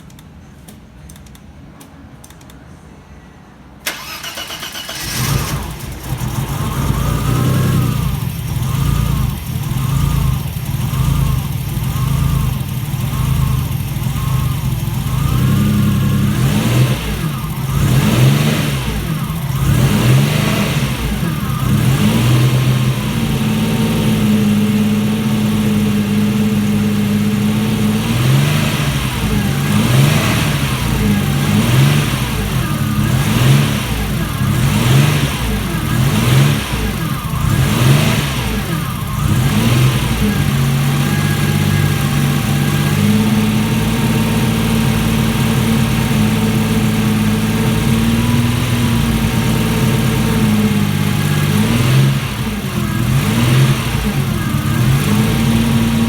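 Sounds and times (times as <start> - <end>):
car engine starting and revving: 3.8 - 56.0.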